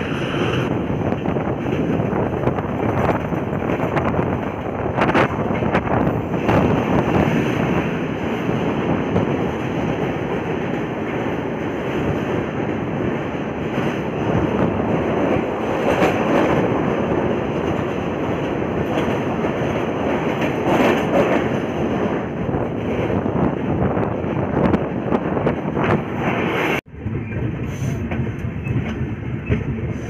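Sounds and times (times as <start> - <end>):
train wheels rumbling in tunnel: 0.0 - 30.0.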